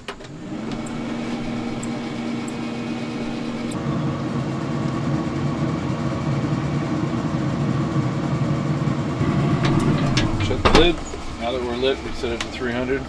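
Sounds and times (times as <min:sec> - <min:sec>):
fan and motor humming: 0:00.0 - 0:13.0.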